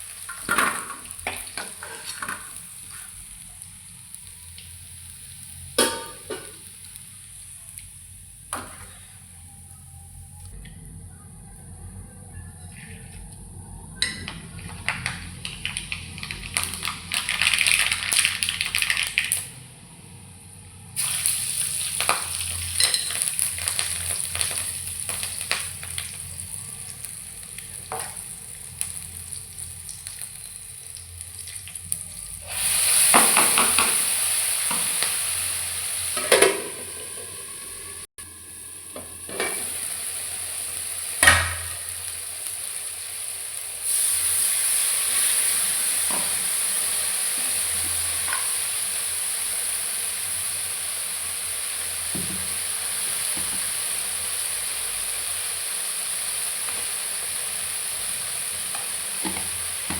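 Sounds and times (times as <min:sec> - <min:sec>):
food sizzling in hot oil: 0:00.0 - 0:09.7, 0:14.0 - 0:19.6, 0:21.0 - 0:59.9.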